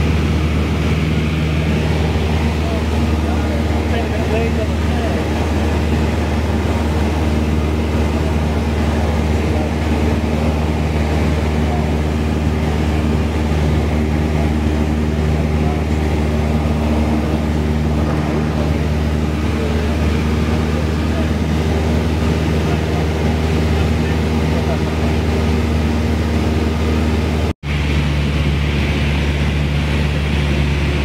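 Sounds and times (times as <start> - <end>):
light aircraft engine droning: 0.0 - 31.0.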